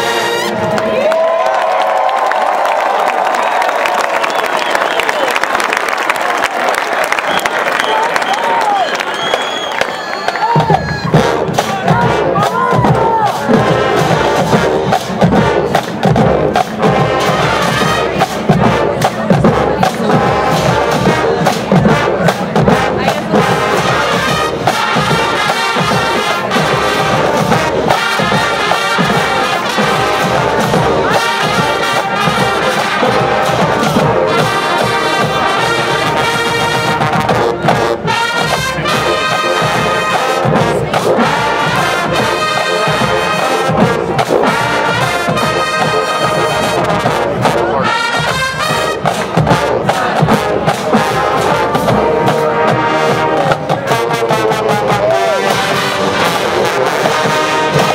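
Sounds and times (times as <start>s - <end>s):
trumpets and trombones: 0.0s - 1.0s, 10.4s - 57.9s
marching band playing: 0.0s - 57.9s
drums beating: 7.0s - 57.9s.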